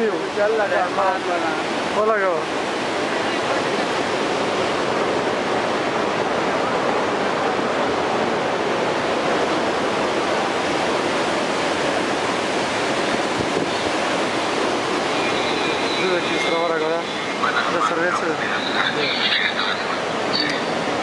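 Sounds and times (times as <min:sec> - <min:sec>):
water rushing through spillway: 0:00.0 - 0:21.0.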